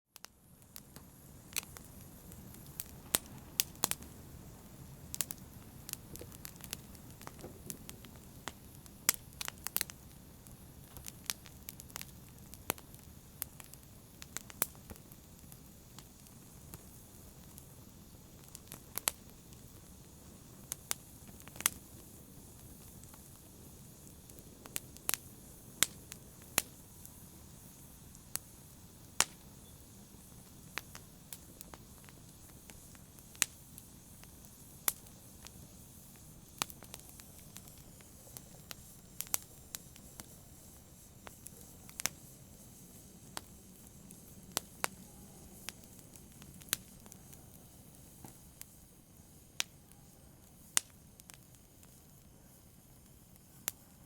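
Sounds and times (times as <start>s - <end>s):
wood fire crackling and popping: 0.2s - 54.0s.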